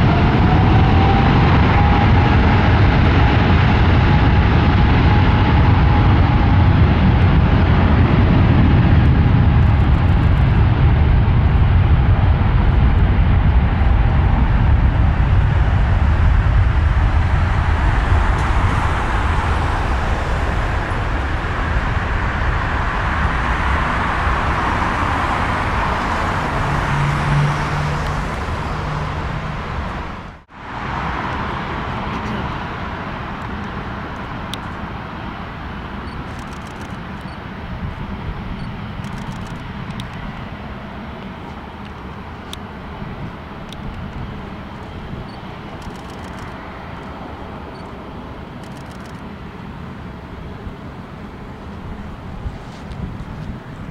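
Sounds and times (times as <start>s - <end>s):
jet airliner taking off: 0.0s - 53.9s.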